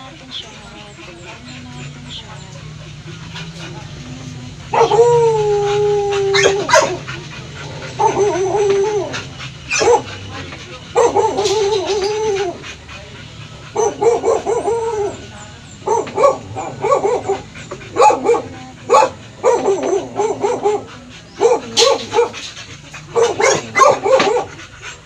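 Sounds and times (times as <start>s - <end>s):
dog barking and yelping: 0.0s - 25.0s.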